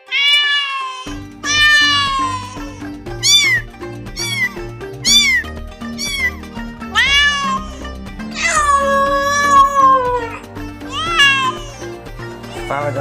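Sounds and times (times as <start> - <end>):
cat meowing: 0.0 - 11.9, 12.5 - 13.0
background music: 0.0 - 13.0.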